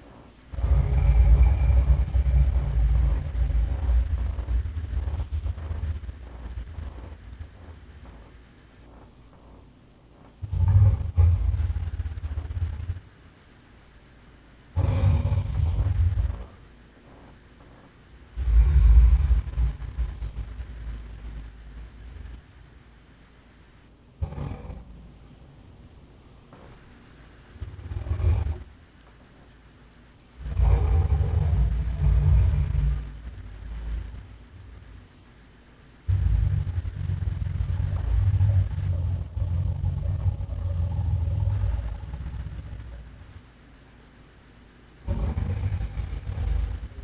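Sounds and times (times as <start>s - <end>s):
deep low rumble: 0.0s - 47.0s.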